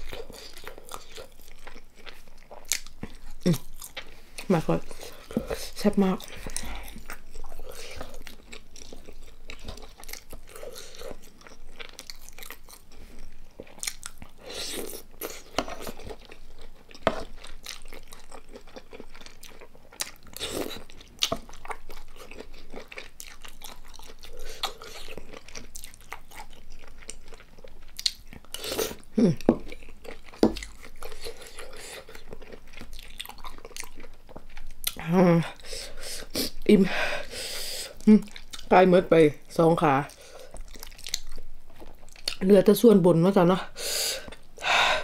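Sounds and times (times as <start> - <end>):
person chewing crunchy food: 0.0 - 42.4.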